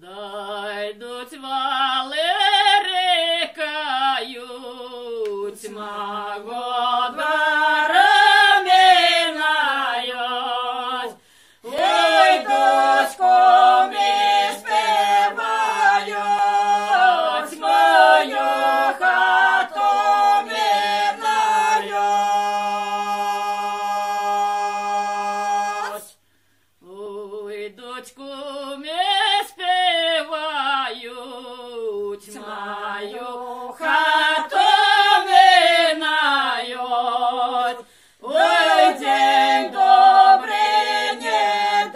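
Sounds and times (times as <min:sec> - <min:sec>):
group singing a cappella: 0:00.0 - 0:26.2, 0:26.8 - 0:41.9.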